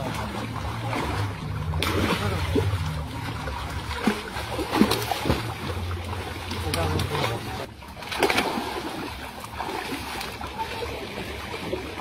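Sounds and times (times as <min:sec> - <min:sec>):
fish splashing in shallow water: 0:00.0 - 0:12.0.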